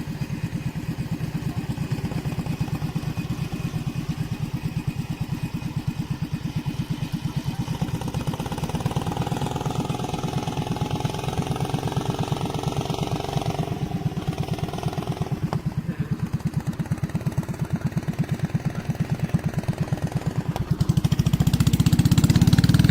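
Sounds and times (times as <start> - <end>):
small boat engine running: 0.0 - 22.9.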